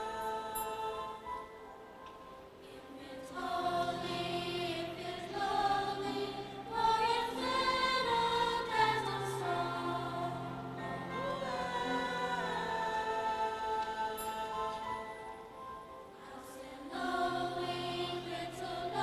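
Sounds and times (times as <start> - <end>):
choir singing held chords: 0.0 - 19.0.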